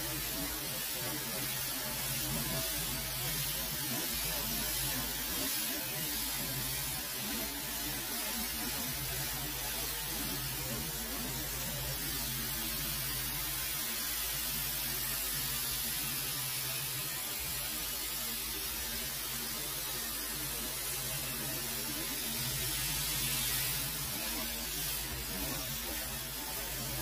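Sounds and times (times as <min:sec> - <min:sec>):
pressure washer spray hissing: 0:00.0 - 0:27.0.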